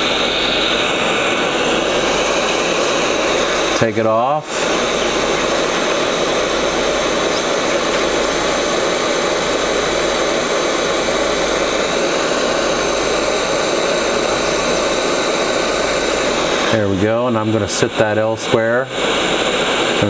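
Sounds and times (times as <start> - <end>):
hot air station blowing air: 0.0 - 20.0.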